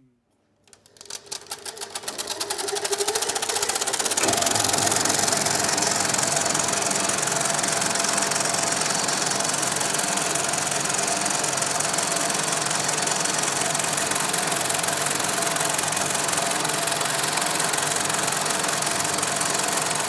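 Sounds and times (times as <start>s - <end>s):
film projector clattering: 0.7s - 20.0s.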